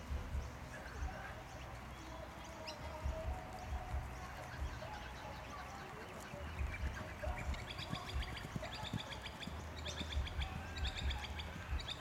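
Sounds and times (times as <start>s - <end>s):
birds chirping: 0.0s - 12.0s
hooves thudding on turf: 0.0s - 12.0s.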